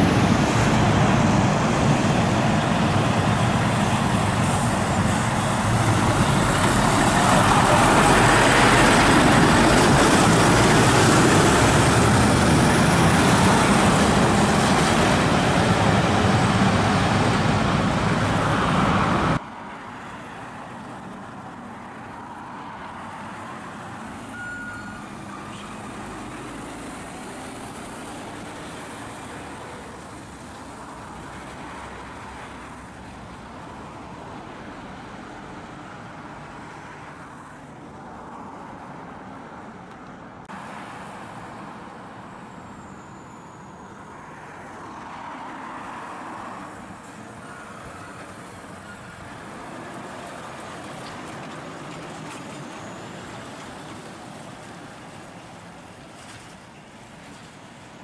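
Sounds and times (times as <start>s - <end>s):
heavy lorries driving past: 0.0s - 58.0s.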